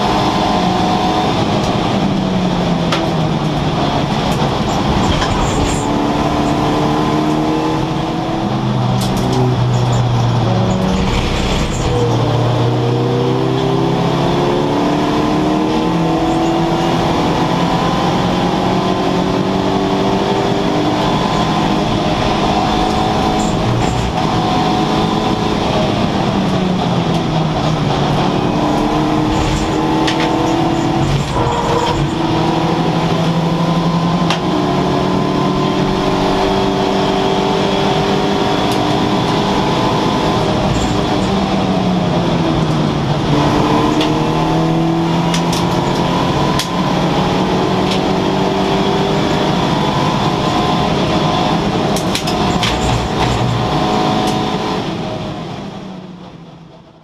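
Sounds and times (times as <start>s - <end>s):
race car engine revving: 0.0s - 55.6s.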